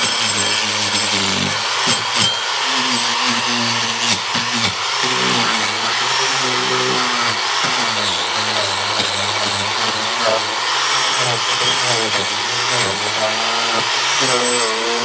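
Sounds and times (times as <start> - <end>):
power tool cutting wood: 0.0 - 15.0.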